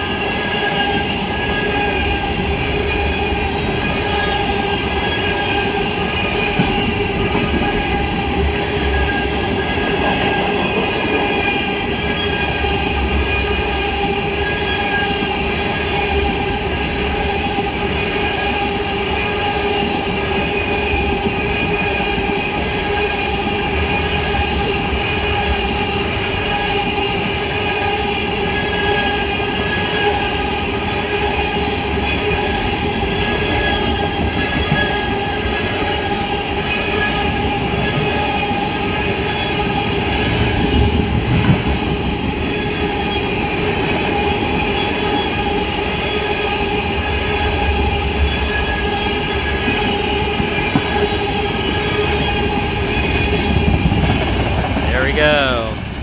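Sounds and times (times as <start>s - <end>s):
high-pitched ringing tones: 0.0s - 54.4s
train wheels rumbling on rail: 0.0s - 56.0s.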